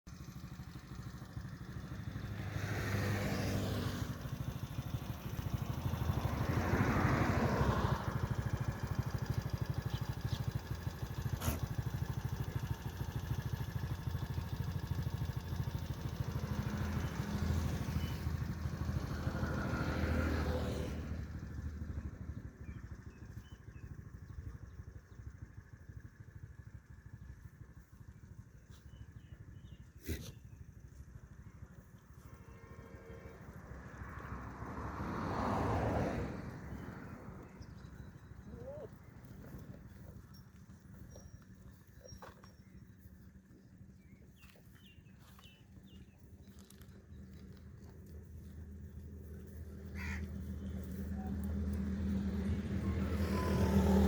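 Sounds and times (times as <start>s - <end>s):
motorcycle-like engine rumbling: 0.1s - 54.0s.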